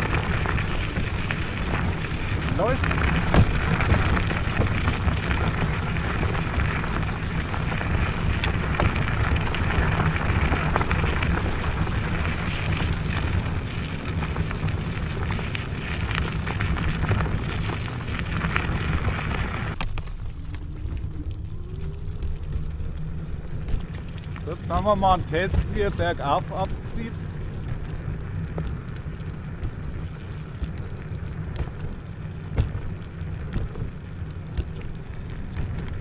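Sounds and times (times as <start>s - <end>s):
hissing tyre noise: 0.0s - 36.0s
wind rumble on microphone: 0.0s - 36.0s.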